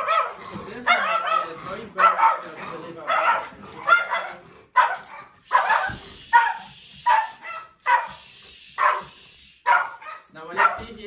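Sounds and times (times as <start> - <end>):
small dog barking: 0.0 - 8.2, 8.8 - 9.1, 9.7 - 11.0.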